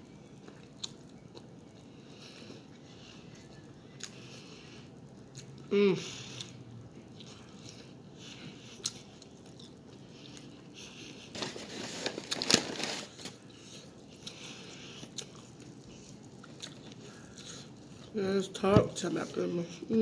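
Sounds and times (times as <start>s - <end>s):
person chewing food: 0.2s - 12.6s, 13.2s - 18.2s.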